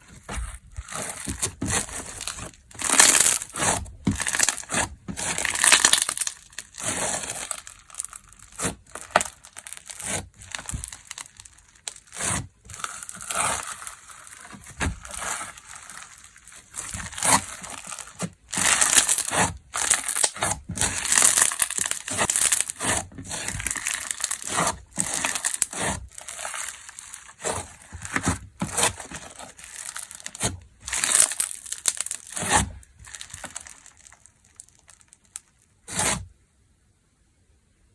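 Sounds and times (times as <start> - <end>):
slime squishing and crackling: 0.0 - 36.3.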